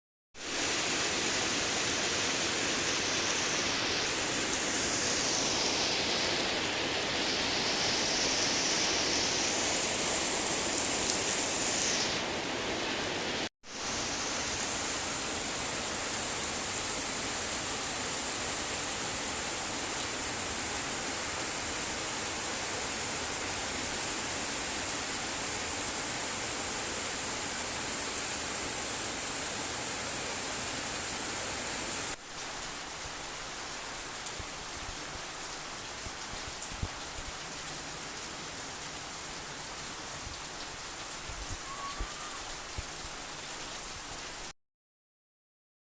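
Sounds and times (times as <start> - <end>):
steady rain hiss: 0.4 - 44.5.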